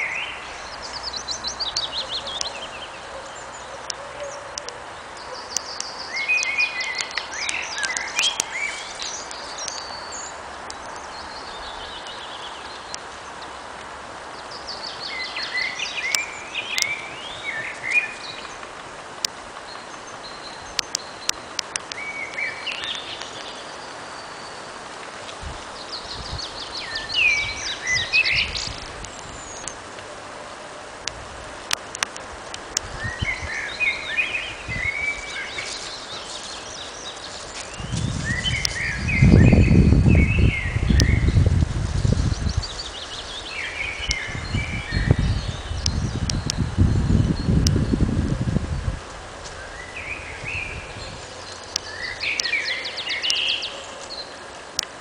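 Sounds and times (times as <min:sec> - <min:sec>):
background hiss: 0:00.0 - 0:55.0
songbirds chirping: 0:00.0 - 0:55.0.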